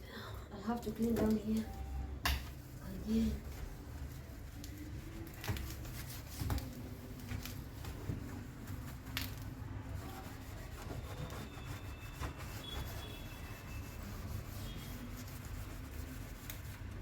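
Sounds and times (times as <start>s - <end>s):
hand scrubbing fridge surface: 2.6s - 9.2s, 9.8s - 17.0s.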